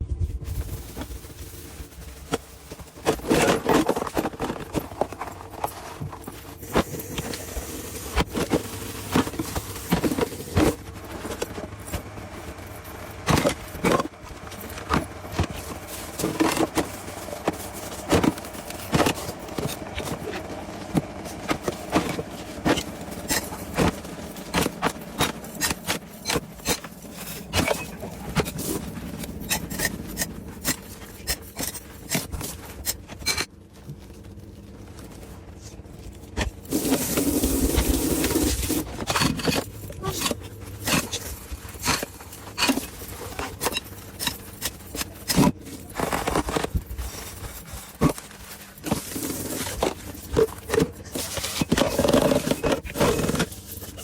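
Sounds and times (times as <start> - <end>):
scraping and rubbing: 0.2 - 54.0.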